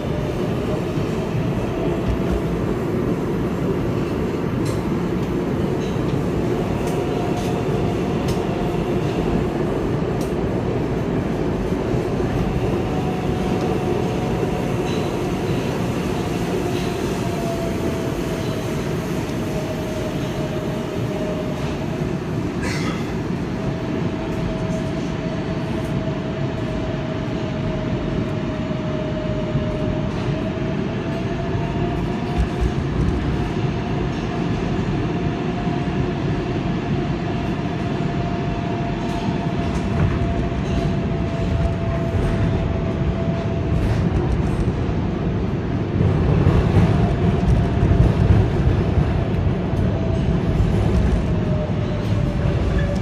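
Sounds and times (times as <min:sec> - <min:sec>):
subway train rumbling in tunnel: 0:00.0 - 0:53.0
train whine: 0:00.0 - 0:53.0.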